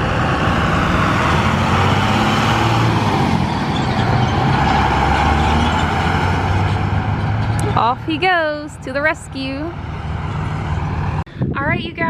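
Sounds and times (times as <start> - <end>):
low engine hum: 0.0 - 11.6
road noise rushing: 0.0 - 11.6.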